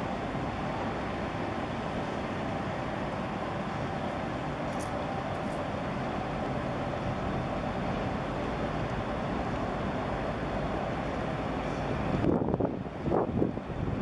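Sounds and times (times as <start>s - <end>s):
boat engine drone: 0.0s - 14.0s
water rushing along hull: 0.0s - 14.0s
wind: 0.0s - 14.0s.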